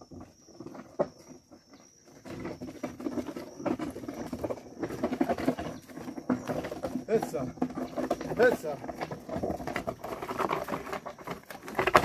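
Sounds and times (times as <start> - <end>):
log scraping on gravel: 0.0 - 12.0
oxen hooves on gravel: 0.0 - 12.0.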